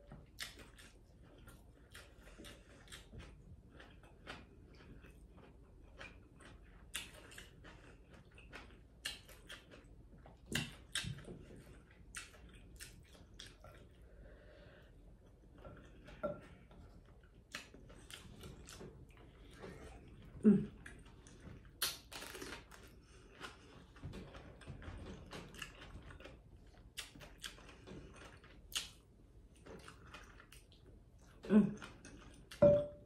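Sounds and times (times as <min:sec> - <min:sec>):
wet chewing with mouth clicks: 0:00.0 - 0:33.0.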